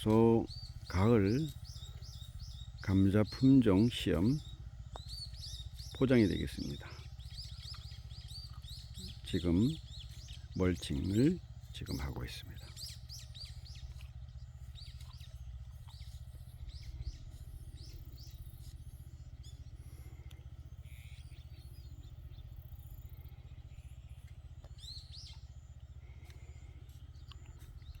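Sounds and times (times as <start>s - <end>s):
machine engine low rumble: 0.0s - 28.0s
small birds chirping: 0.0s - 28.0s.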